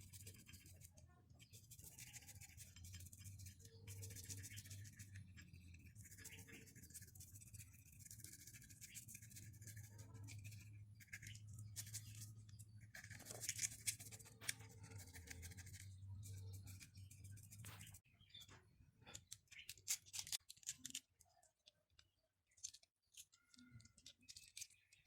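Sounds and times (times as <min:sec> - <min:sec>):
faint scraping and scratching: 0:00.0 - 0:25.0.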